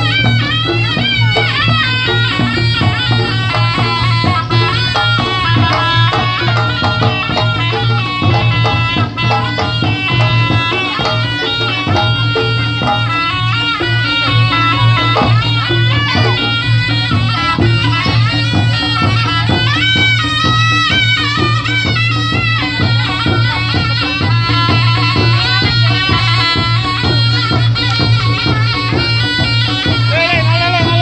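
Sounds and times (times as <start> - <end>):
drum strokes: 0.0 - 31.0
reedy shawm melody: 0.0 - 31.0.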